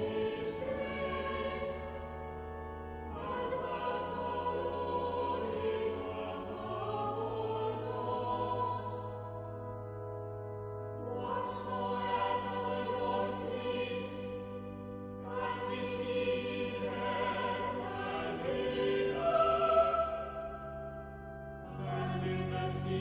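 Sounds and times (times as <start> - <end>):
choir singing sacred music: 0.0 - 23.0.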